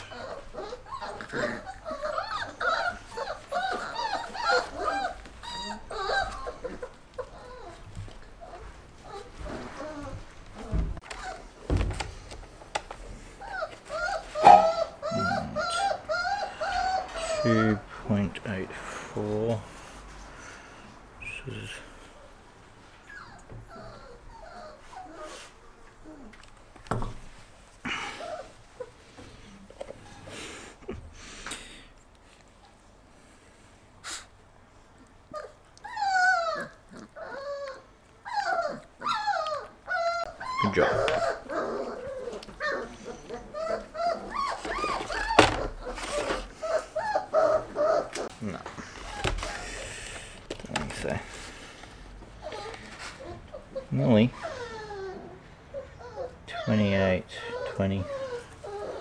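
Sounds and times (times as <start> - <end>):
puppy whining: 0.0 - 11.7, 13.2 - 17.9, 21.2 - 27.0, 27.8 - 30.8, 34.1 - 59.0.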